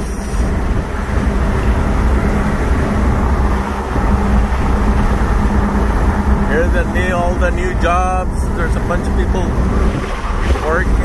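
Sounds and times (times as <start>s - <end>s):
constant low hum: 0.0s - 11.0s
engine and road rumble in cab: 0.0s - 11.0s.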